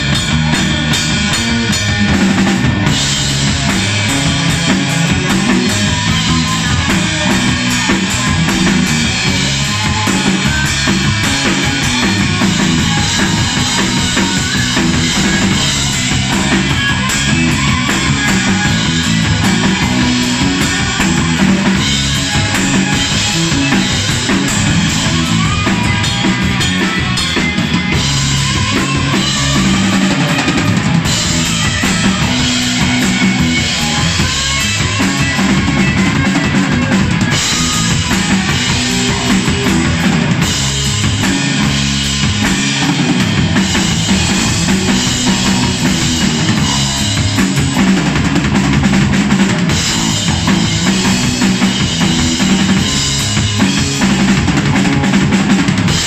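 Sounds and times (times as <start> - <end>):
drum kit: 0.0 - 56.0
heavy rock band playing: 0.0 - 56.0.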